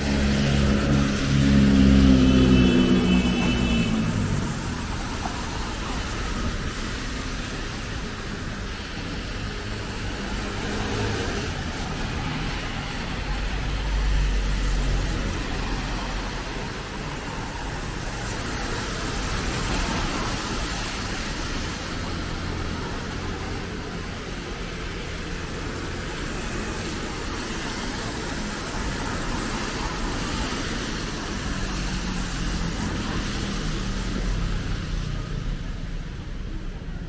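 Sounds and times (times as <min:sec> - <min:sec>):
rain falling: 0:00.0 - 0:37.0
street traffic rumble: 0:00.0 - 0:37.0.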